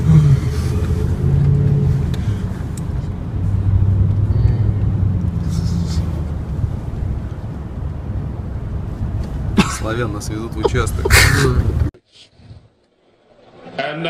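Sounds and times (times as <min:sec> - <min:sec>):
car engine hum: 0:00.0 - 0:12.0
road rumble: 0:00.0 - 0:13.4.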